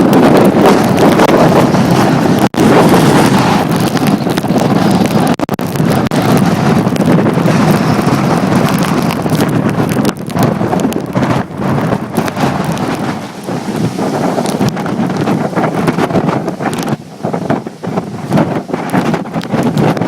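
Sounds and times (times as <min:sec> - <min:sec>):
storm wind on microphone: 0:00.0 - 0:20.0.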